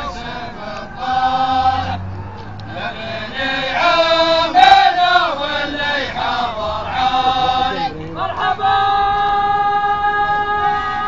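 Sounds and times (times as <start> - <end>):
men chanting in unison: 0.0 - 11.0.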